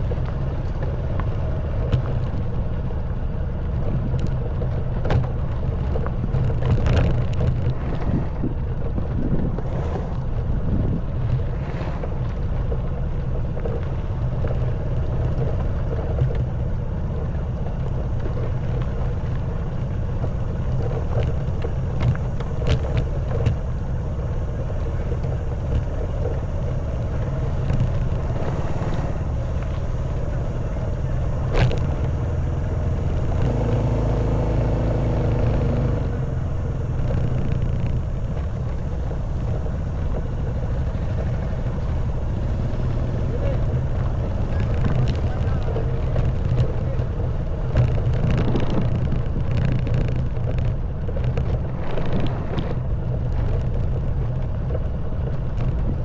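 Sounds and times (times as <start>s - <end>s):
knocks and rattles of bike: 0.0s - 56.0s
motorcycle engine running: 0.0s - 56.0s.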